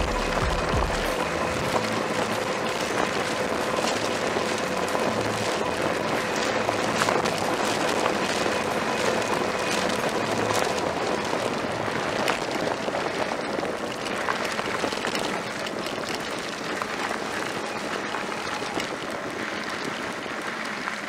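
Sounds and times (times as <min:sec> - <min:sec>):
bike tyres rolling on gravel: 0:00.0 - 0:21.0
grit clicks: 0:00.0 - 0:21.0.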